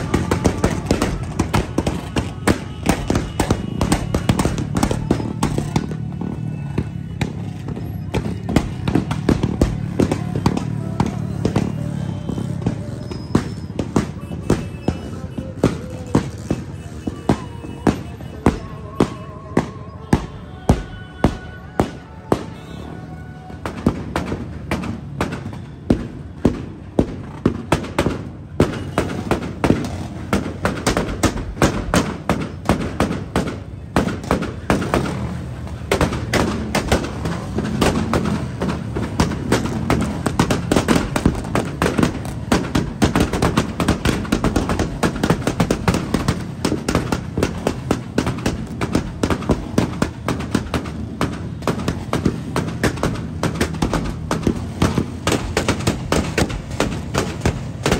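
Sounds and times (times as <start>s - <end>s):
rapid sharp bangs: 0.0s - 22.8s, 23.5s - 57.9s.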